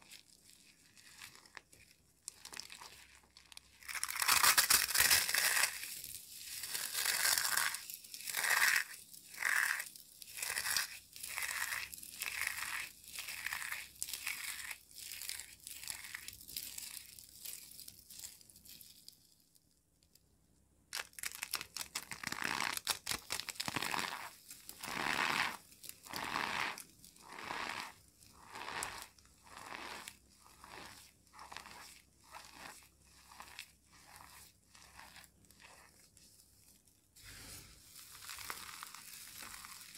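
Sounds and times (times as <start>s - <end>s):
dry soap crunching in hands: 0.0s - 19.4s, 20.9s - 39.9s.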